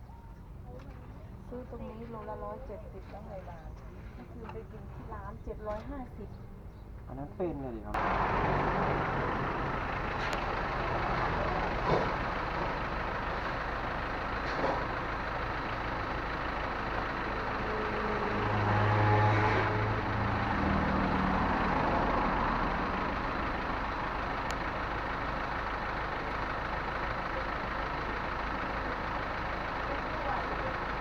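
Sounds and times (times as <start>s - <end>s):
steady traffic noise: 0.0s - 31.0s
vehicle engine low hum: 0.0s - 31.0s.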